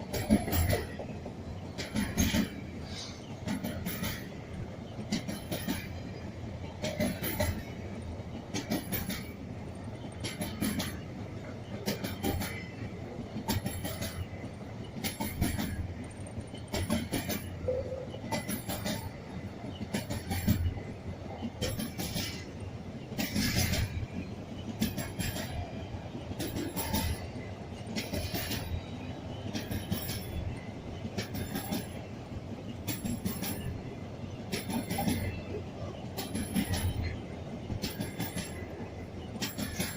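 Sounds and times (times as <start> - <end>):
low rumble of train cars: 0.0 - 39.9
train wheels clacking over rail joint: 0.0 - 39.9.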